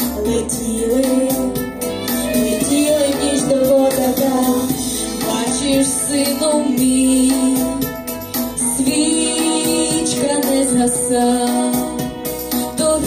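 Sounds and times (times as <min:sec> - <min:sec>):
instrumental backing track: 0:00.0 - 0:13.0
woman singing: 0:00.0 - 0:13.0.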